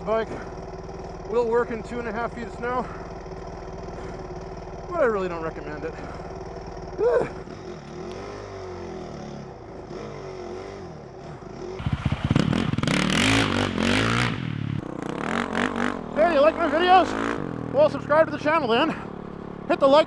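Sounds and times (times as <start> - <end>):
dirt bike engine revving: 0.0 - 20.0
motorcycle engine idling: 0.0 - 20.0.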